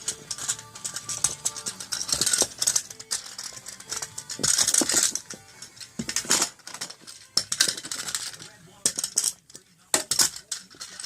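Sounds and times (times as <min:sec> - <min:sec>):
plastic toy rattling and clattering: 0:00.0 - 0:11.0.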